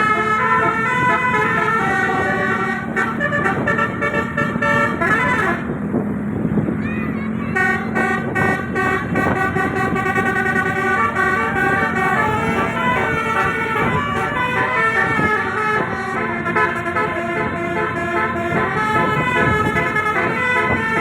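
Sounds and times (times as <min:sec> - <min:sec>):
bus air horns playing chords: 0:00.0 - 0:05.9, 0:07.2 - 0:21.0.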